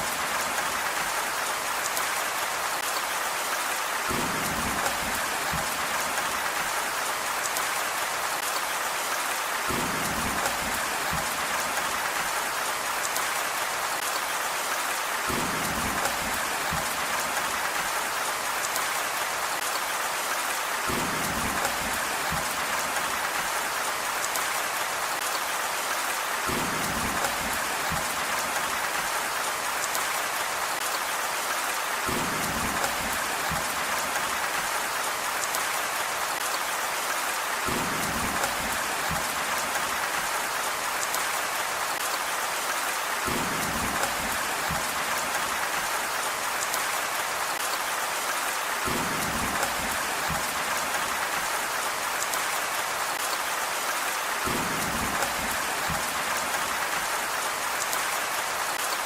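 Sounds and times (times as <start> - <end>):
dense rain hiss: 0.0 - 59.0.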